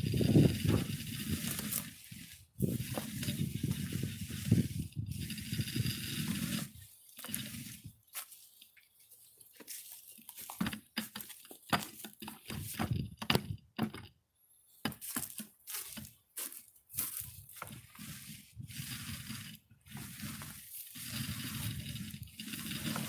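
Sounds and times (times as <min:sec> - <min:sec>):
paint roller crackling: 0:00.0 - 0:13.5, 0:14.9 - 0:23.0.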